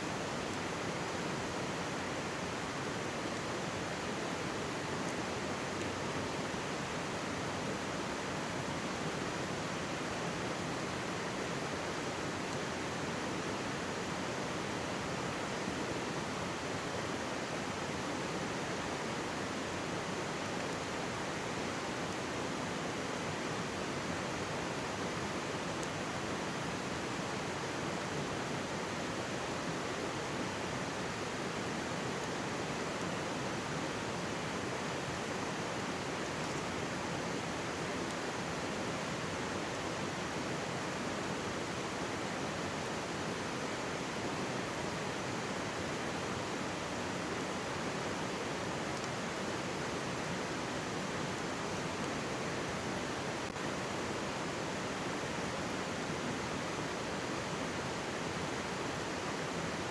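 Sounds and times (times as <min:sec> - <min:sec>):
mountain stream rushing: 0:00.0 - 0:59.9
faint campfire crackles: 0:00.1 - 0:59.8.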